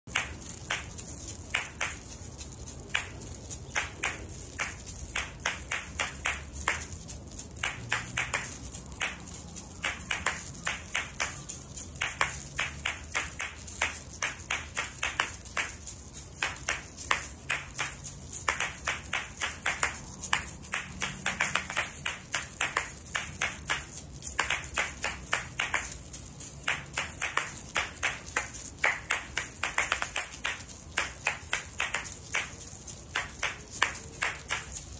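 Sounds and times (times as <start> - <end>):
shaker balls clacking: 0.1 - 34.9.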